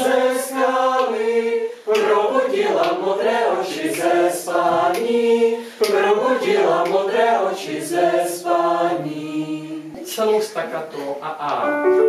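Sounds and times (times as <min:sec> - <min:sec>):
choir singing a cappella: 0:00.0 - 0:10.0.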